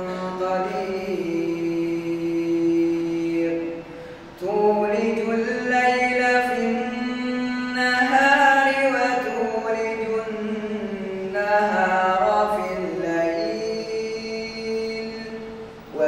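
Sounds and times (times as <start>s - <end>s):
man chanting melodically: 0.0s - 3.8s, 4.4s - 16.0s.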